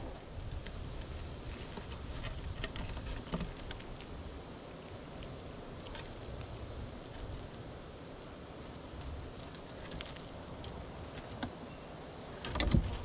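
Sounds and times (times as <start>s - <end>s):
squirrel cracking seeds: 0.4s - 11.5s.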